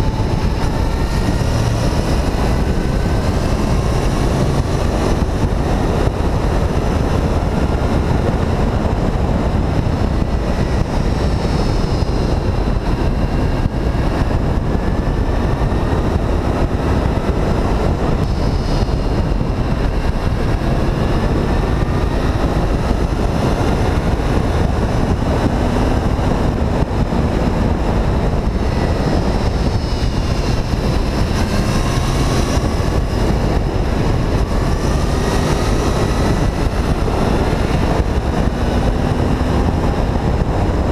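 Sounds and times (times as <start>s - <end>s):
motorcycle engine revving: 0.0s - 40.9s
wind rush on microphone: 0.0s - 40.9s.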